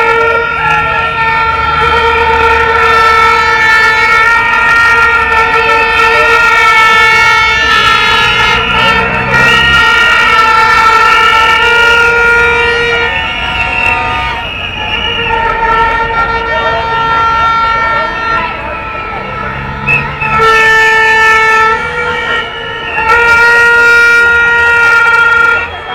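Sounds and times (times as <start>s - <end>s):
horns droning: 0.0s - 25.9s.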